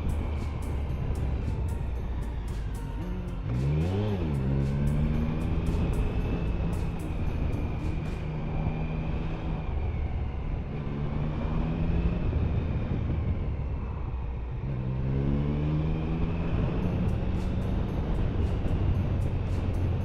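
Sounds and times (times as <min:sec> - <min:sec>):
car engine: 0:00.0 - 0:20.0
road noise inside car: 0:00.0 - 0:20.0.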